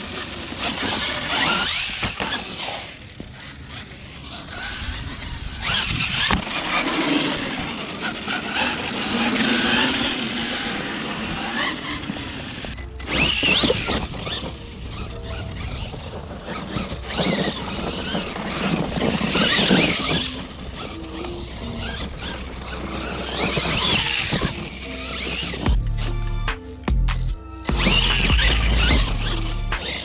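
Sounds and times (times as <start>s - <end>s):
electric motor whining: 0.0s - 30.0s
tyres churning dirt and gravel: 0.0s - 30.0s.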